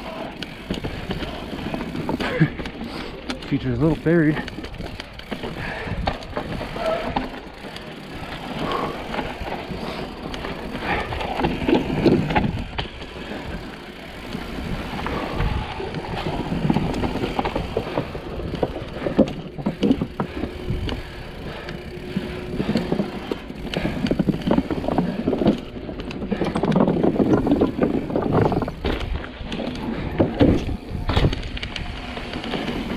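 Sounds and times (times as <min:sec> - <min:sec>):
bike rattling over bumps: 0:00.0 - 0:32.9
bike tyres crunching over stones: 0:00.0 - 0:32.9.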